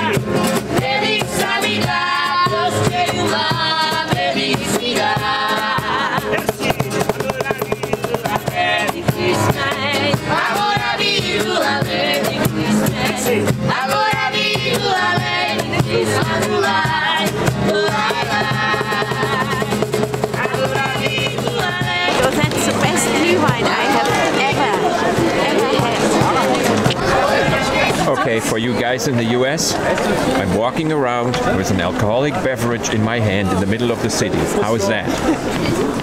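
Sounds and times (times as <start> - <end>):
cajon beat: 0.0 - 29.0
acoustic guitars strumming: 0.0 - 36.0.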